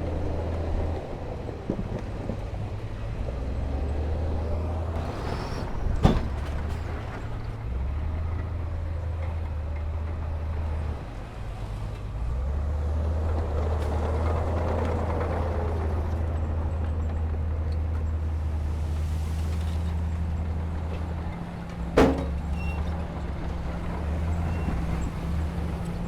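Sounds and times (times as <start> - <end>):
diesel machinery engine: 0.0 - 26.0.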